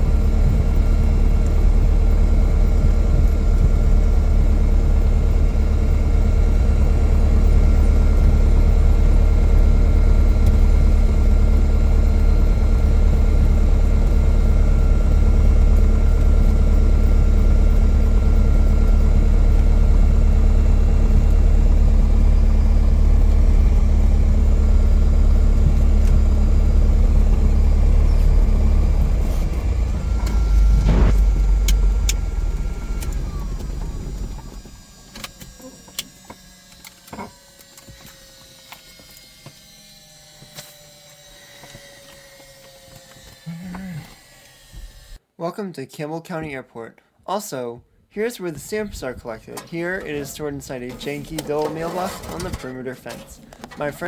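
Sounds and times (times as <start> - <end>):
airplane engine and propeller drone: 0.0 - 45.2.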